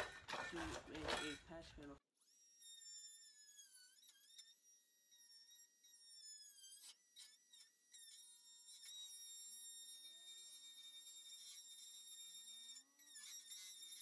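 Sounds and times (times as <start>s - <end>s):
rotary tool high-pitched whine: 2.2s - 14.0s.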